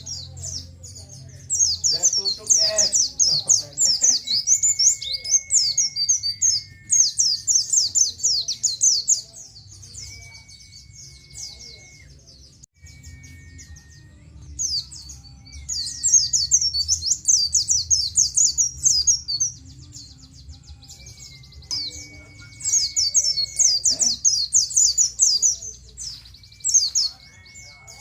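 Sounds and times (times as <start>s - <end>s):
bird chattering song: 0.0s - 28.0s.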